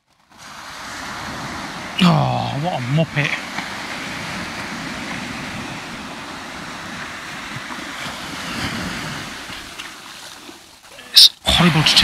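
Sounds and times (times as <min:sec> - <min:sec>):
surf breaking on beach: 0:00.1 - 0:12.0
wind buffeting microphone: 0:00.4 - 0:10.5.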